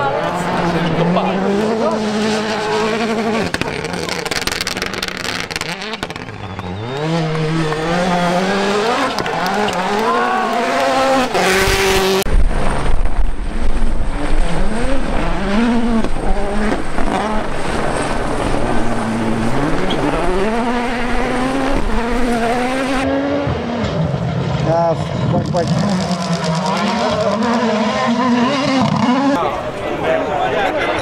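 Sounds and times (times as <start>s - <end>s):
rally car engine revving: 0.0s - 29.8s.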